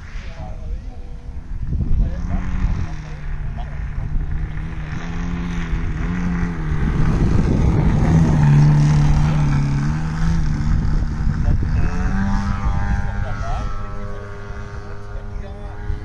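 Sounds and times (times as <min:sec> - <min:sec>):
model plane engine and propeller: 0:00.0 - 0:16.0.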